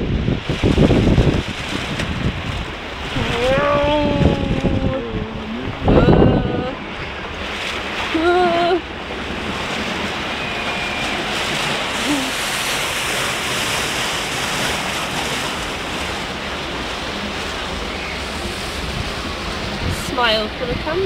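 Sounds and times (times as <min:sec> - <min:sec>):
rushing rapids water: 0:00.0 - 0:21.0
wind buffeting microphone: 0:00.0 - 0:21.0.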